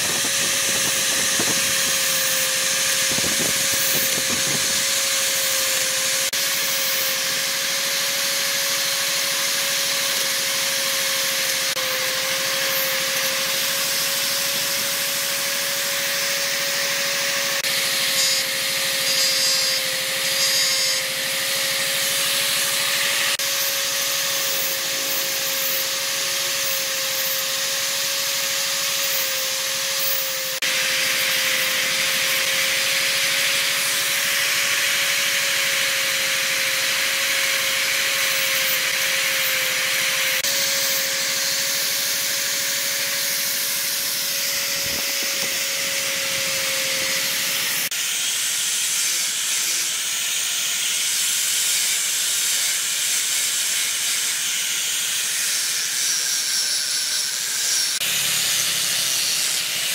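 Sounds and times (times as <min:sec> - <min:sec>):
angle grinder sanding wood: 0:00.0 - 0:59.9
die grinder cutting wood: 0:00.0 - 0:59.9.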